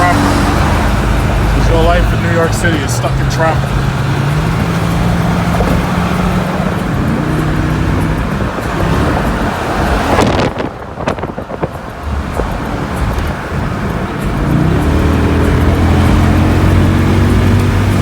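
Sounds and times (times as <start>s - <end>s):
car engine hum: 0.0s - 18.0s
tyre and traffic noise: 0.0s - 18.0s.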